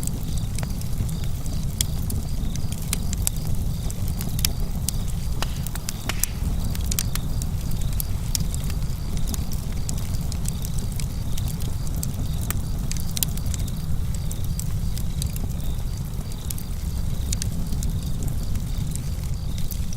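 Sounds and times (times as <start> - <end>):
campfire crackling: 0.0 - 19.9.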